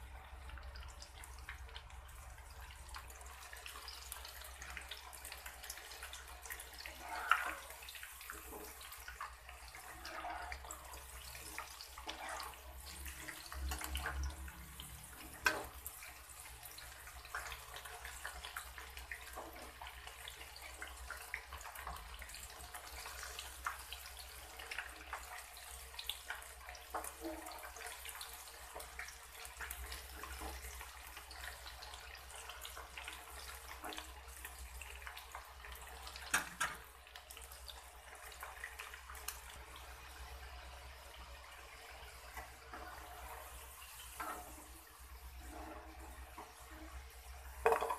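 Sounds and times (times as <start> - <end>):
food deep-frying in hot oil: 0.0 - 47.9.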